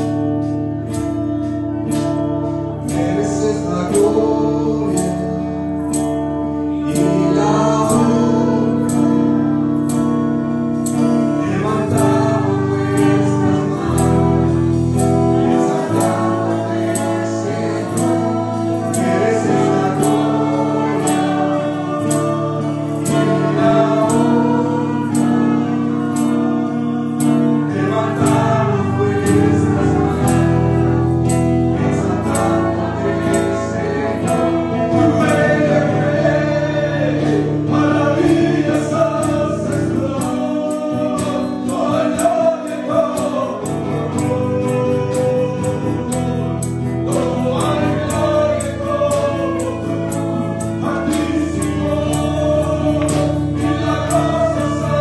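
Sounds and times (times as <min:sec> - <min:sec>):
choir-like backing vocals: 0:00.0 - 0:55.0
keyboard chords: 0:00.0 - 0:55.0
man singing into a microphone: 0:02.7 - 0:31.0, 0:31.7 - 0:55.0.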